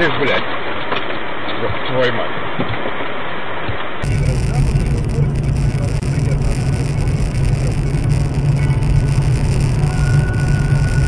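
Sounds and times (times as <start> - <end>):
car engine drone and tyre noise: 0.0 - 11.0.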